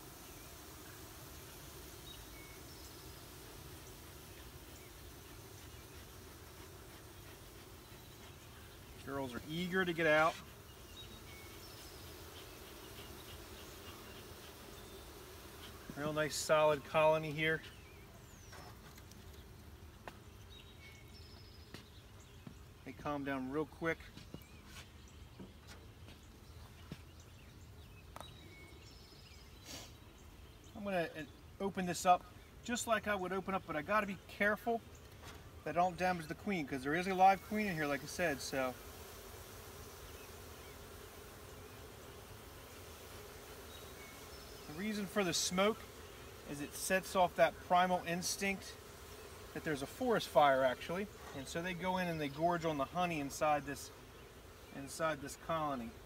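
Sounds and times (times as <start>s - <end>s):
distant bird chirps: 0.0s - 23.0s, 24.0s - 31.6s, 39.9s - 55.9s
honeybees humming: 0.0s - 56.0s.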